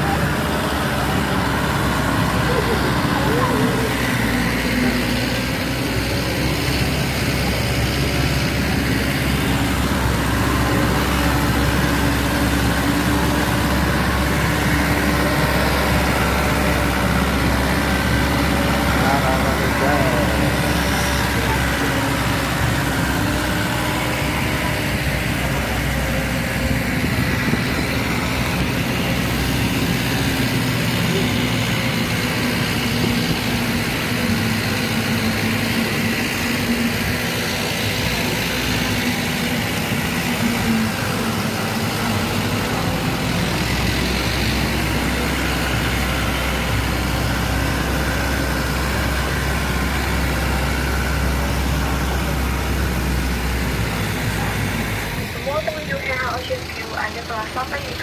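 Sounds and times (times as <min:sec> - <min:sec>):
faint voices: 0:00.0 - 0:58.0
vehicle engine rumbling: 0:00.0 - 0:58.0.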